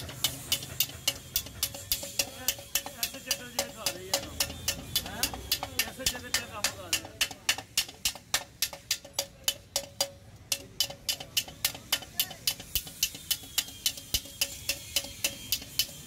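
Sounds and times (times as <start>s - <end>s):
small hammer tapping metal: 0.0s - 16.0s.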